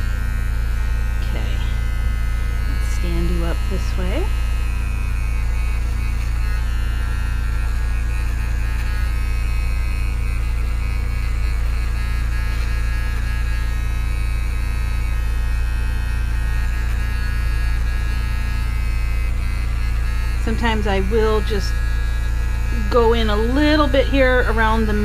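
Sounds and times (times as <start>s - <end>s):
electric clipper humming: 0.0s - 25.0s.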